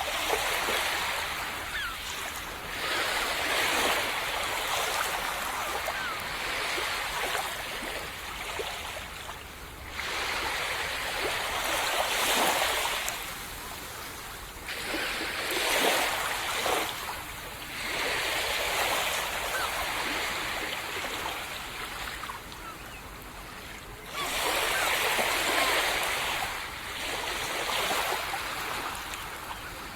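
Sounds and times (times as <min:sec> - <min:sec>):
small waves breaking on sand: 0:00.0 - 0:29.9.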